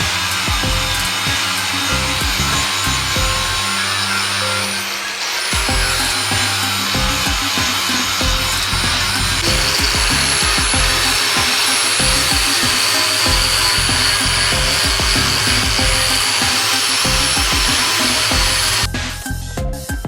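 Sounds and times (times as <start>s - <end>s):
electronic music with a beat: 0.0s - 3.7s, 5.5s - 20.0s
power sander whining: 0.0s - 18.9s.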